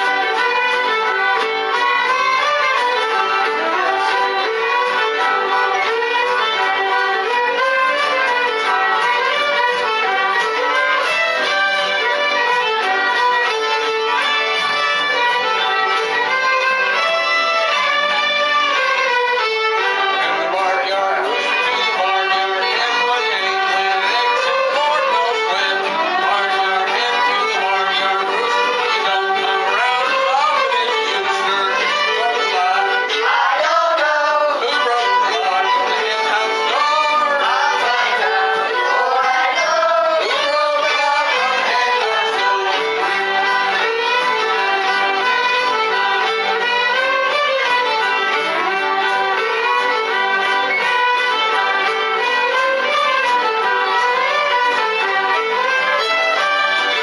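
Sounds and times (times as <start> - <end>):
fiddles playing melody: 0.0 - 57.0
strummed acoustic guitars: 0.0 - 57.0.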